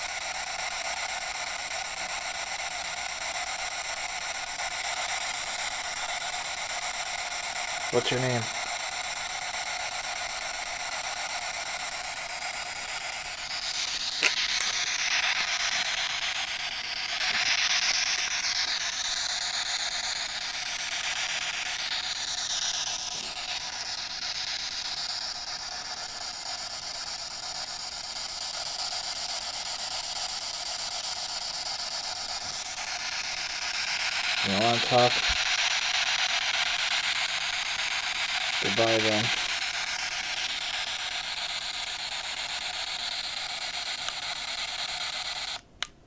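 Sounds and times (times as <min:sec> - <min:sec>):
radio static: 0:01.7 - 0:45.6.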